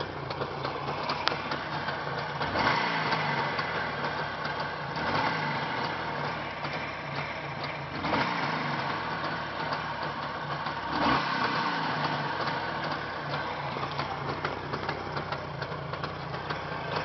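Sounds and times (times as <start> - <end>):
two-stroke motorcycle engine idling: 0.0 - 17.0.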